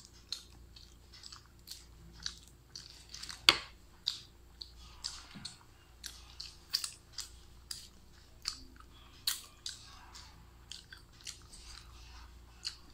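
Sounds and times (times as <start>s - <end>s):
person chewing wetly: 0.0s - 12.9s.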